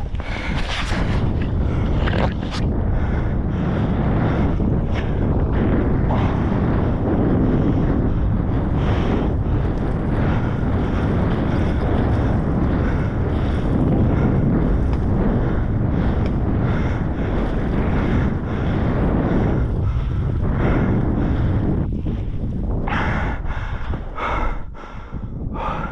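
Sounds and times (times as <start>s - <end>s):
wind buffeting microphone: 0.0s - 25.9s.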